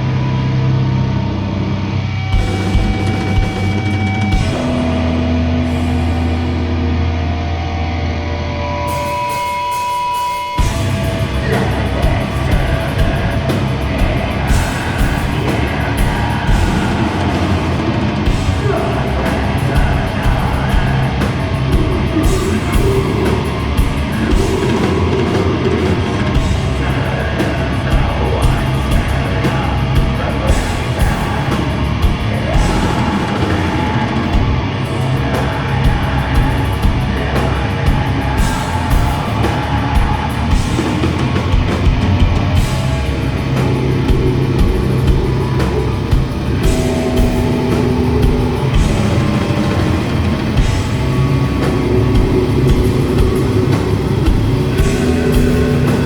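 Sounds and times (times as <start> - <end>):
grindcore band playing live: 0.0 - 8.0, 8.7 - 56.0
guitar feedback tone: 0.0 - 56.0.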